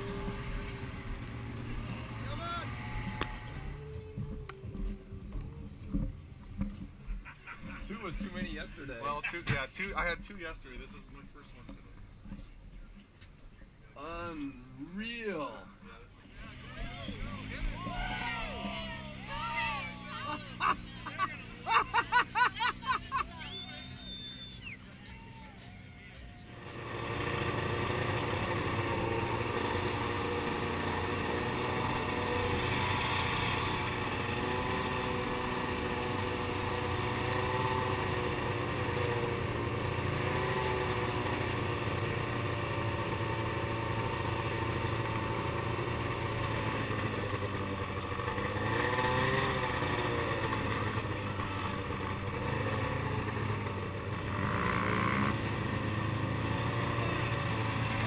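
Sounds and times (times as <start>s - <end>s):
snowmobile engine running: 0.0s - 9.9s, 16.4s - 58.0s.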